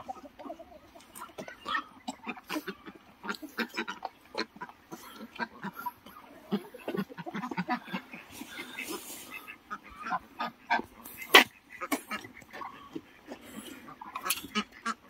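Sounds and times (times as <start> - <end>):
ducks and geese calling: 0.0 - 15.0.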